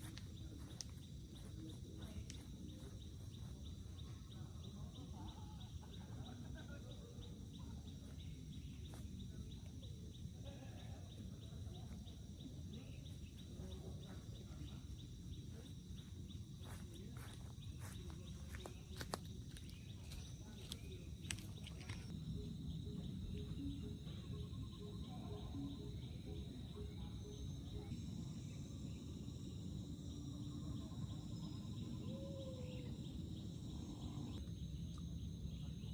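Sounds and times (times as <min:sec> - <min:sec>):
high-pitched pulsing chirp: 0:00.0 - 0:35.9
wind: 0:00.0 - 0:35.9.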